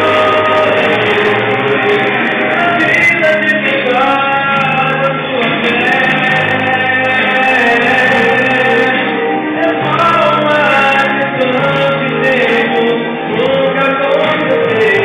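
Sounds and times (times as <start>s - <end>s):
man singing gospel song: 0.0s - 15.0s.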